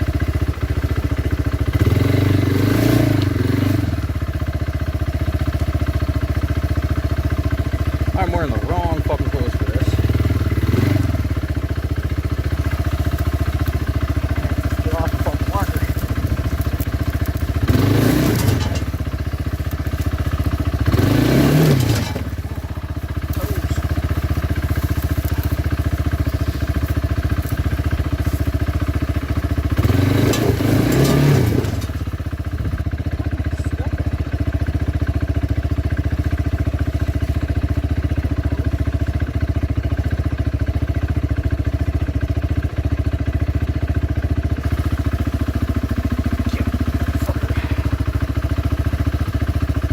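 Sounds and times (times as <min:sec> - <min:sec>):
atv engine revving: 0:00.0 - 0:49.9.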